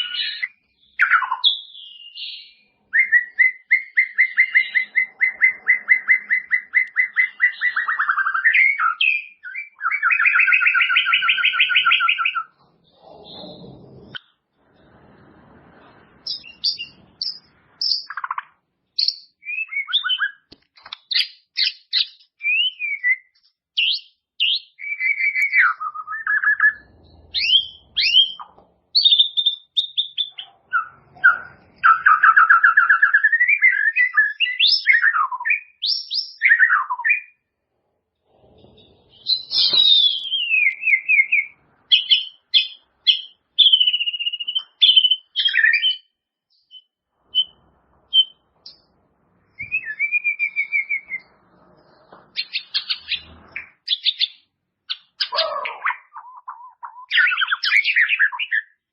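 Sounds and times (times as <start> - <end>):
songbird singing varied song: 0.0 - 14.3, 16.2 - 37.4, 38.6 - 48.9, 49.5 - 58.9.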